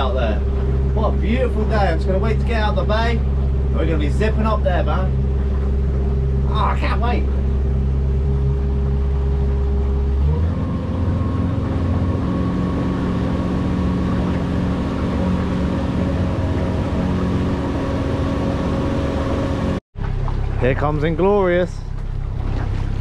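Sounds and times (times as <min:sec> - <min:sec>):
outboard engine running: 0:00.0 - 0:23.0.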